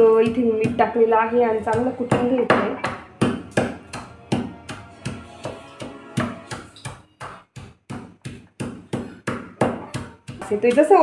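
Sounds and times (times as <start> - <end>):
pestle pounding in a mortar: 1.6 - 11.0.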